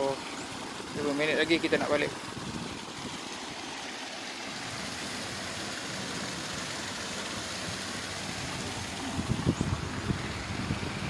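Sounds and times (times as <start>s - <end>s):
paddlewheel aerator splashing water: 0.0s - 11.0s.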